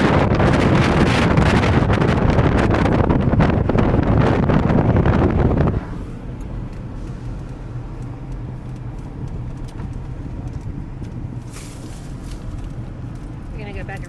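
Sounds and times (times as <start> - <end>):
car engine and road noise: 0.0 - 14.0
wind buffeting microphone: 0.0 - 14.0.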